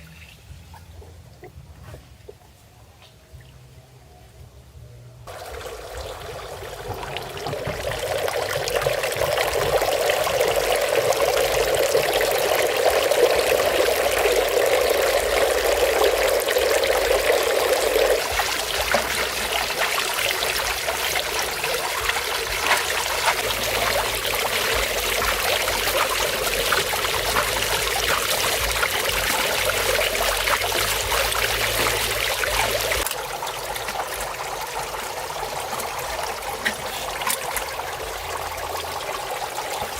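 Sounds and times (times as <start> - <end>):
water pouring and trickling: 0.0 - 1.6, 5.2 - 39.9.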